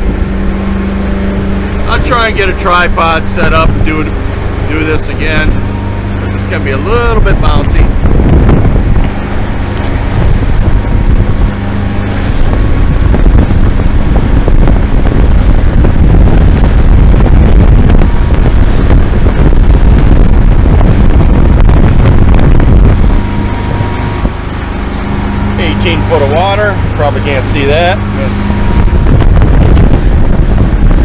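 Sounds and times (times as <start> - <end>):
motorboat engine at speed: 0.0 - 31.0
wind buffeting microphone: 0.0 - 31.0.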